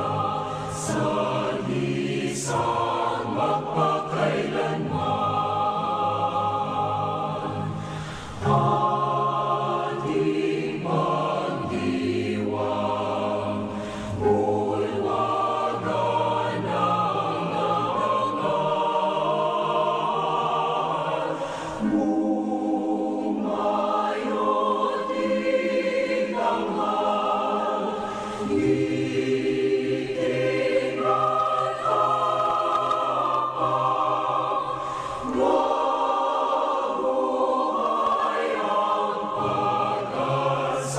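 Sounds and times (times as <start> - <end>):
choir-like voices holding chords: 0.0 - 40.9.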